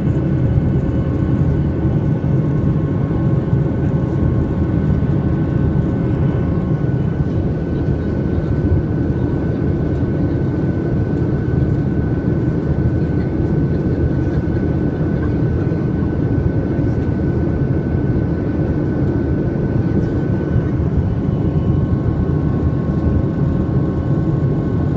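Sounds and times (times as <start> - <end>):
jet cabin engine rush: 0.0 - 24.9.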